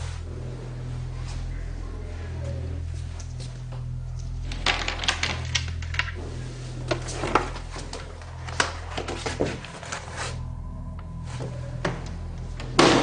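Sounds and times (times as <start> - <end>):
background music drone: 0.0 - 13.0.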